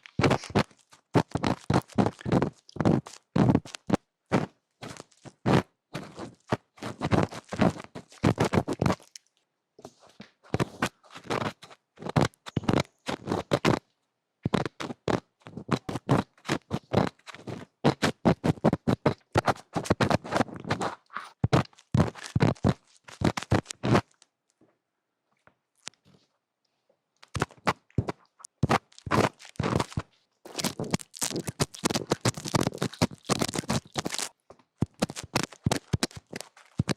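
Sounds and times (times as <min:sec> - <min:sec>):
close scratching and tapping: 0:00.0 - 0:09.2, 0:09.8 - 0:13.9, 0:14.5 - 0:24.3, 0:27.2 - 0:36.9.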